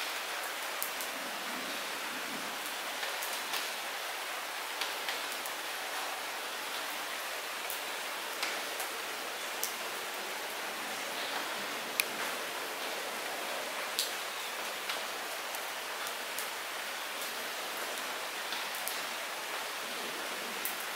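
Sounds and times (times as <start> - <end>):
light rain hissing: 0.0 - 20.9
raindrops ticking on surfaces: 0.0 - 20.9.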